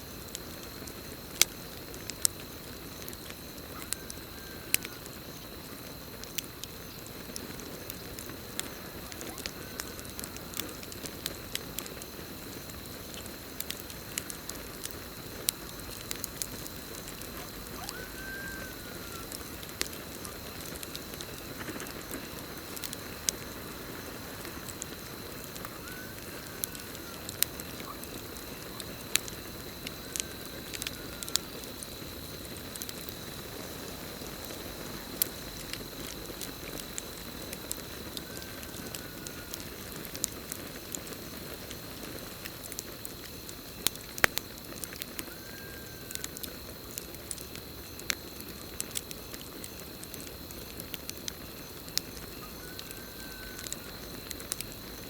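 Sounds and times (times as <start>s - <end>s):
campfire crackling and popping: 0.0s - 55.0s
crickets trilling: 0.0s - 55.0s.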